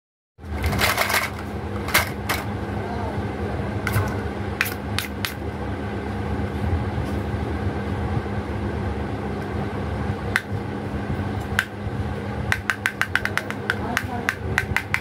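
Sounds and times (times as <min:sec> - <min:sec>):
low background hum: 0:00.4 - 0:15.0.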